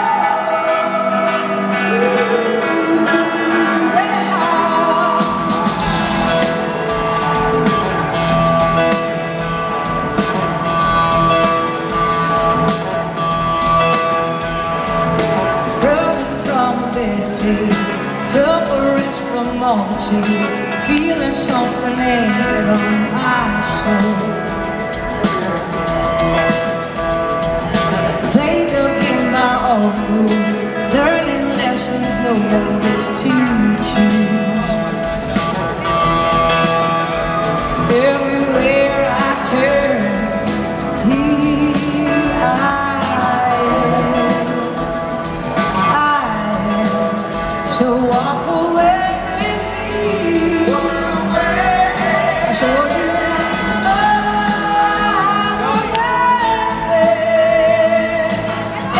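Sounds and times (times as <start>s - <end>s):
bending lead melody line: 0.0s - 58.9s
rock band playing: 0.0s - 58.9s.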